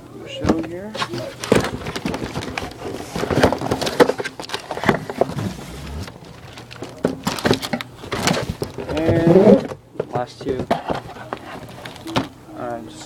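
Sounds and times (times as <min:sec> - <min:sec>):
cardboard rustling and scraping: 0:00.5 - 0:12.3.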